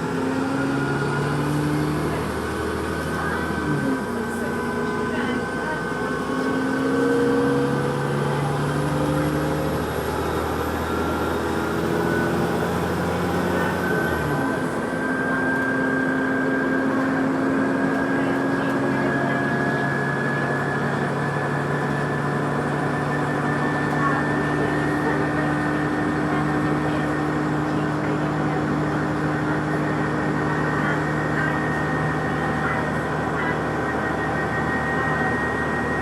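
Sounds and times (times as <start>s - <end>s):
high whine from vehicle: 0.0s - 36.0s
vehicle engine humming: 0.0s - 36.0s.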